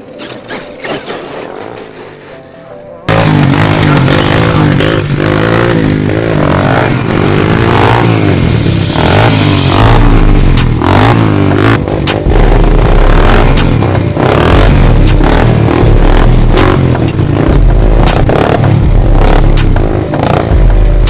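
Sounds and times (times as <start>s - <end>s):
dirt bike engines revving: 0.0s - 21.0s
loud music with heavy bass: 3.1s - 21.0s.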